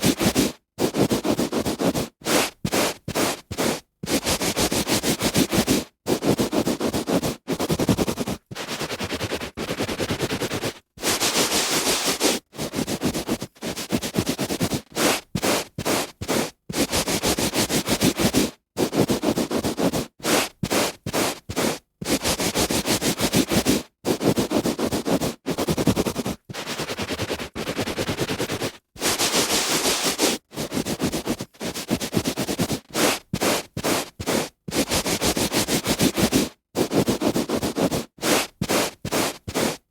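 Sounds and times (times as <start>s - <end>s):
hand rubbing on carpet: 0.0s - 39.8s.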